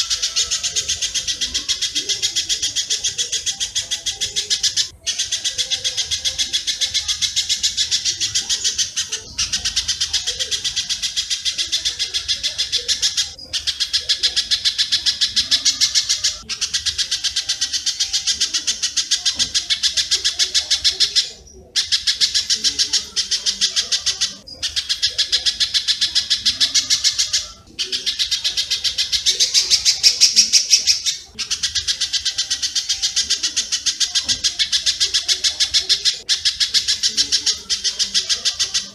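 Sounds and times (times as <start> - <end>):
high sharp bird chips: 0.0 - 38.9.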